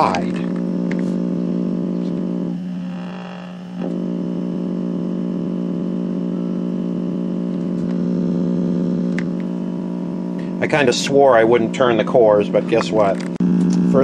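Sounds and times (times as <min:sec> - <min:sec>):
electrical hum from tube radio: 0:00.0 - 0:14.0.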